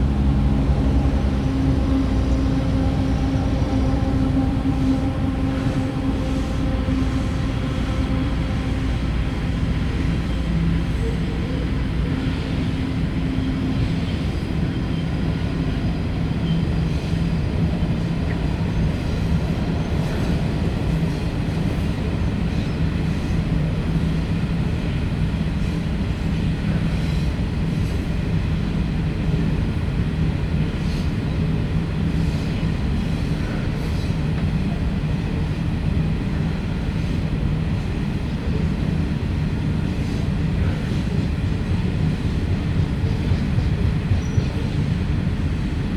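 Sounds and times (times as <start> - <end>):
locomotive engines droning: 0.0 - 45.9
rumble of train wagons: 0.0 - 45.9.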